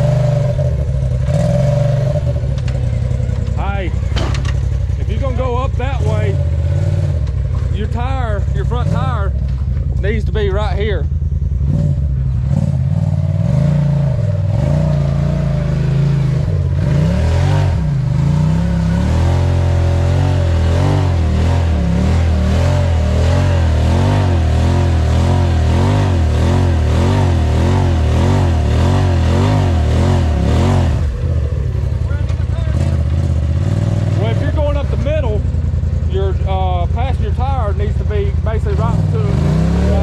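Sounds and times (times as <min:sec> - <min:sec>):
utv engine revving: 0:00.0 - 0:40.0.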